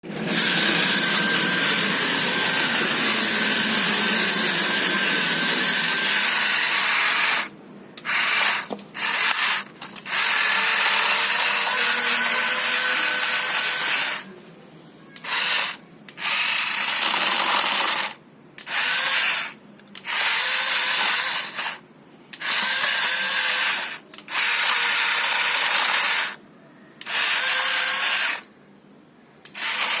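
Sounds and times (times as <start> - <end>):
small electric motors whirring: 0.1 - 14.3, 15.2 - 26.4, 27.0 - 28.5, 29.4 - 30.0.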